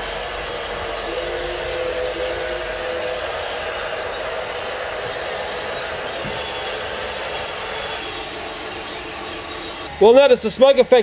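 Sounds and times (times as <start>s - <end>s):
toy train motors whirring: 0.0s - 10.8s
steady tonal hum: 0.0s - 10.9s.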